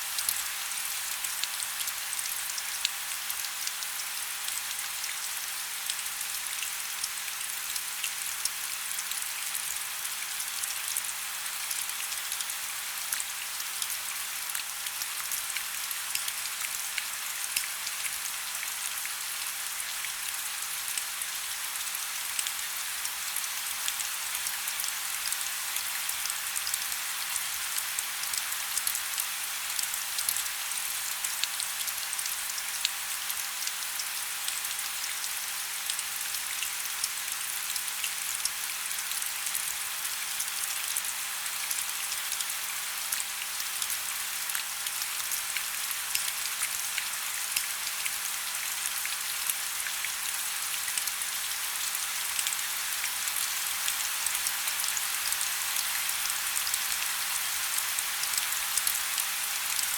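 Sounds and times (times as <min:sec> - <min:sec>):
steady rain with drop patters: 0:00.0 - 0:59.9.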